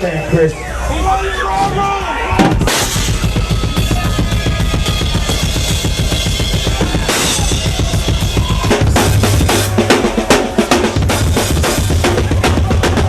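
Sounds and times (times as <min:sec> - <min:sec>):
fast drum kit playing: 0:02.4 - 0:13.0.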